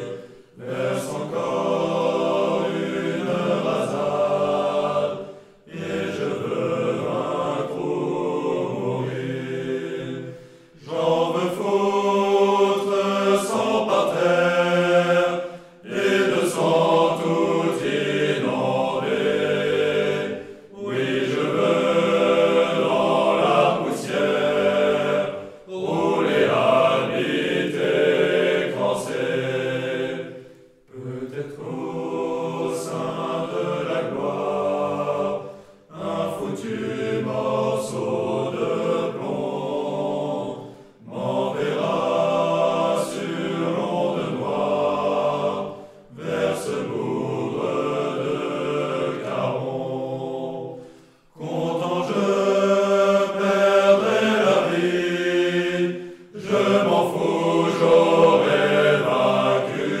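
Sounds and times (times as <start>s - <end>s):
choir singing: 0.0s - 60.0s.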